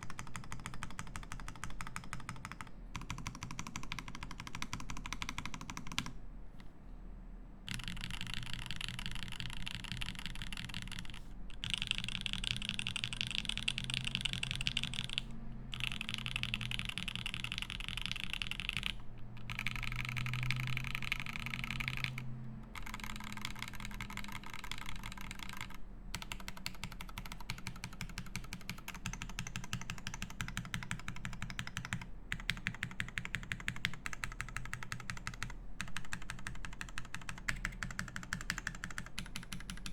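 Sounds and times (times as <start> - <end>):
mechanical keyboard typing: 0.0 - 6.2, 7.7 - 39.9.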